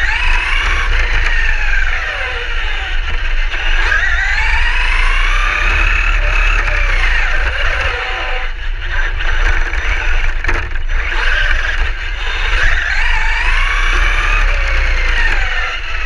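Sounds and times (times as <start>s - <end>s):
low rumble of vibration: 0.0s - 16.0s
toy car motor whining: 0.0s - 16.0s.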